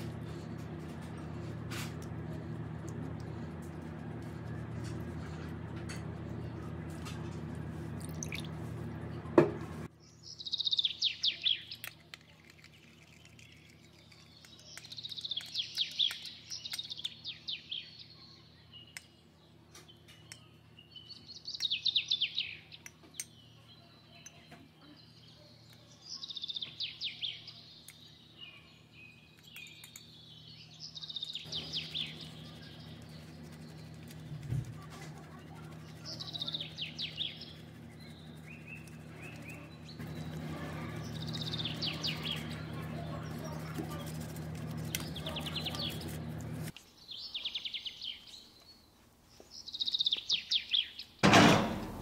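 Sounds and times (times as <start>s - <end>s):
faint low hum: 0.0s - 47.2s
songbird chirping: 0.0s - 52.0s.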